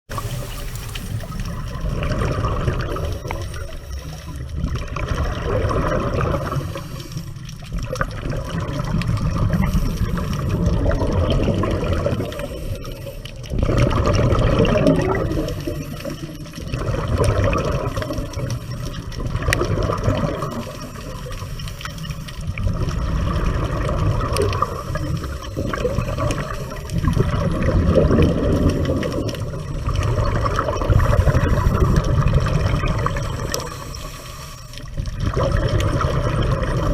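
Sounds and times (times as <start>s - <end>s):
underwater regulator breathing bubbles: 0.1s - 36.9s.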